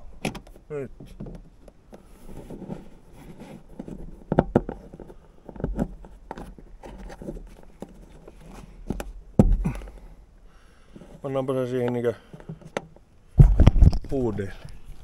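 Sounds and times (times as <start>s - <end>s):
cable scraping and rustling: 0.4s - 10.1s, 10.9s - 15.0s.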